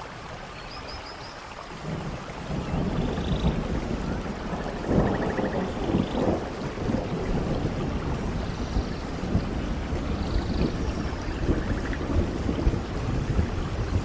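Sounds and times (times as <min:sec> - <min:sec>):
heavy rain: 0:00.0 - 0:14.0
low thunder rumble: 0:01.8 - 0:14.0.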